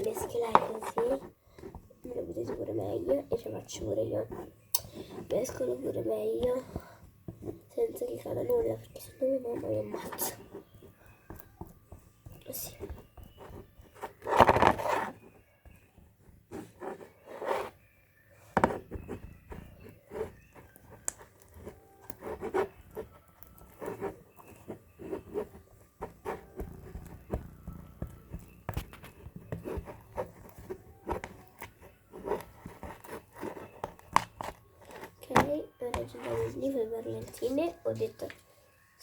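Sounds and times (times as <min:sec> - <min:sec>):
slime being stirred by hand: 0:00.0 - 0:38.3.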